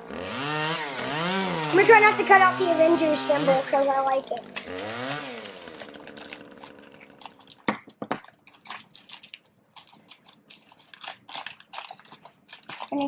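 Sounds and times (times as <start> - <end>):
plastic bag crinkling: 1.0 - 13.0.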